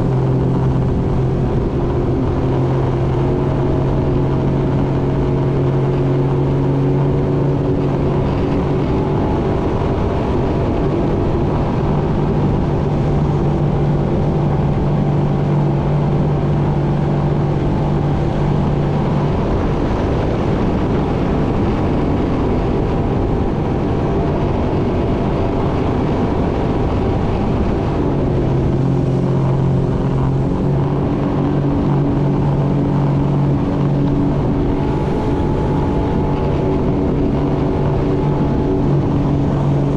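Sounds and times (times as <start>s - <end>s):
jet ski engine hum: 0.0s - 39.9s
rushing water and wind: 0.0s - 39.9s.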